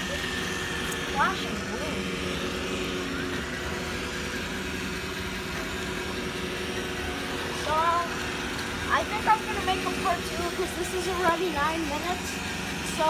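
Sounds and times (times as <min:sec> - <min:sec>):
robot vacuum motor hum: 0:00.0 - 0:13.0.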